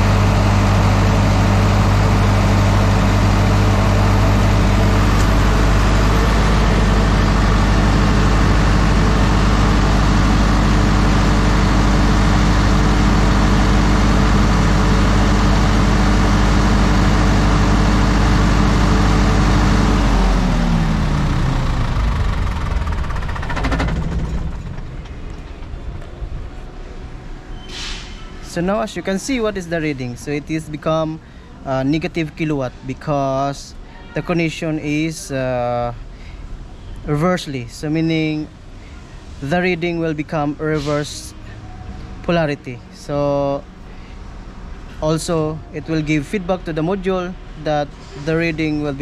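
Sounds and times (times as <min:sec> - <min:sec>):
diesel generator running: 0:00.0 - 0:49.0.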